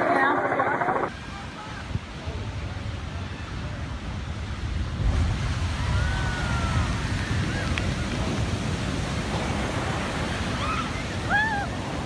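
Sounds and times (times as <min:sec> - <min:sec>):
wind buffeting microphone: 0:01.0 - 0:12.0
rushing floodwater: 0:01.1 - 0:12.0.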